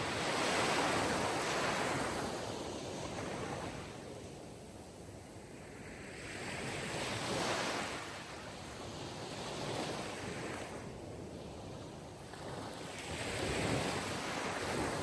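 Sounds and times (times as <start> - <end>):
waves washing in: 0.0 - 4.0, 5.8 - 15.0.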